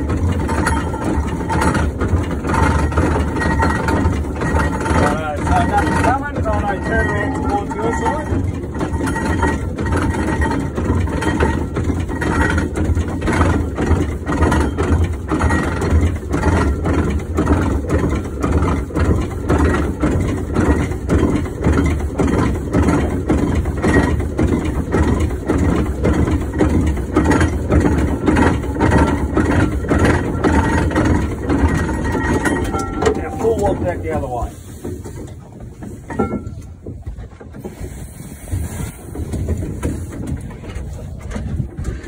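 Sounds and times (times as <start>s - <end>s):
steam engine beating rhythmically: 0.0s - 37.4s.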